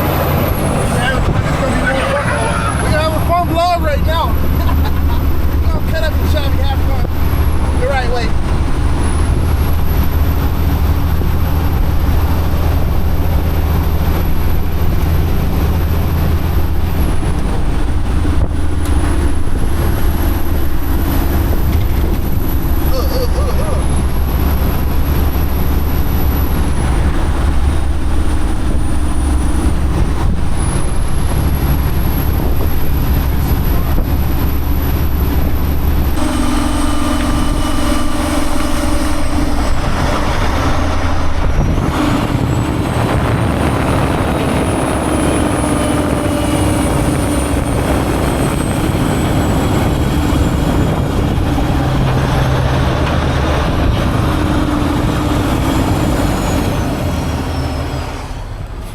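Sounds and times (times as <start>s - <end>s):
road noise: 0.0s - 58.9s
truck engine running: 0.0s - 58.9s.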